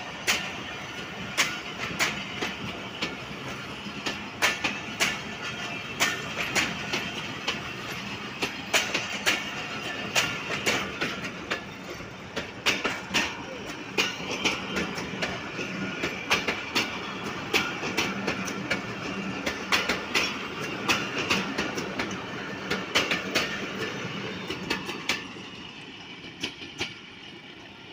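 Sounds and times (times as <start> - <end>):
passenger coaches rolling past: 0.0 - 27.9
train wheels clicking over rail joints: 0.0 - 27.9.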